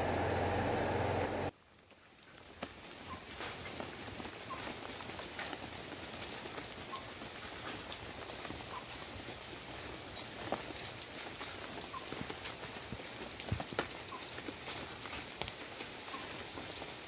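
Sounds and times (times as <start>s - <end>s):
light rain on foliage: 0.0s - 17.0s.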